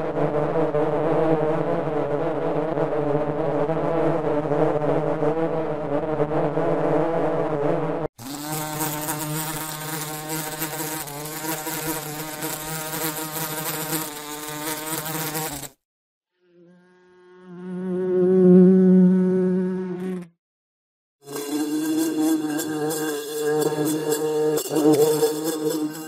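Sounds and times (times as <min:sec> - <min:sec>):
bee buzzing in flight: 0:00.0 - 0:20.4, 0:21.2 - 0:26.0.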